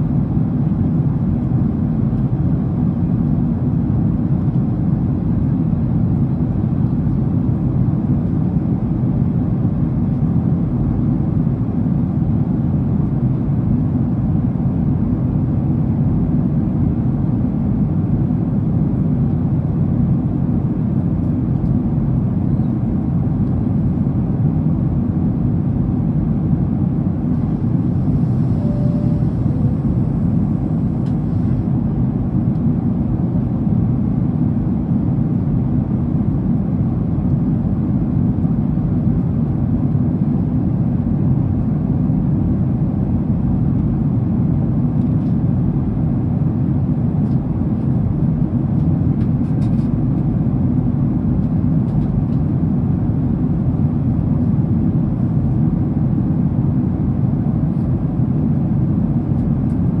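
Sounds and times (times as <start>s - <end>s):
airliner cabin engine rumble: 0.0s - 60.0s.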